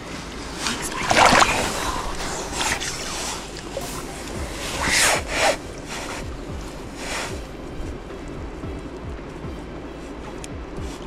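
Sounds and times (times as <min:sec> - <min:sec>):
creek water splashing and rushing: 0:00.0 - 0:11.0.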